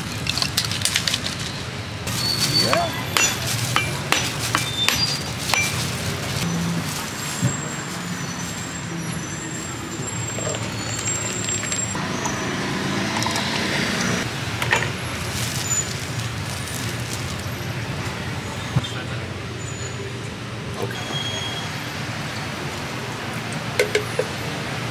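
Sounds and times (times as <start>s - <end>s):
vehicles passing: 0.0s - 24.9s.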